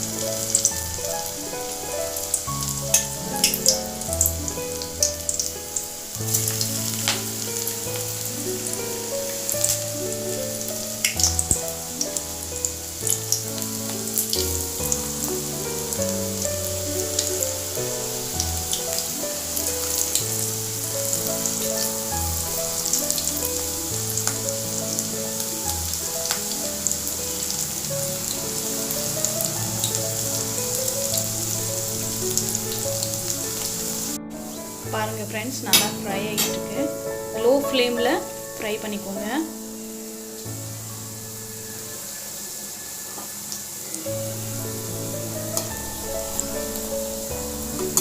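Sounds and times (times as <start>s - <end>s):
background music: 0.0s - 48.0s
batter deep-frying in hot oil: 0.0s - 48.0s.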